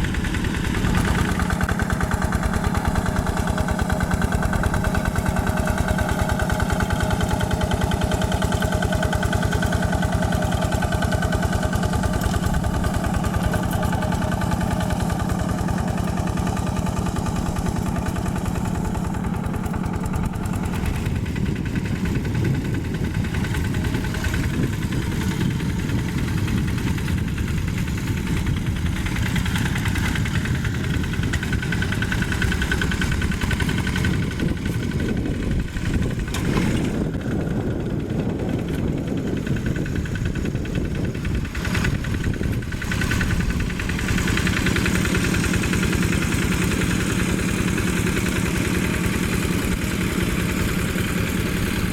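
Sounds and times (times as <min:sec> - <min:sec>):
diesel tractor engine chugging: 0:00.0 - 0:51.9.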